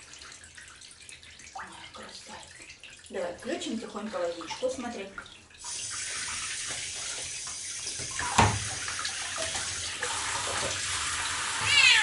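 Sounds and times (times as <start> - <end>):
tap water running into bathtub: 0.0 - 12.0.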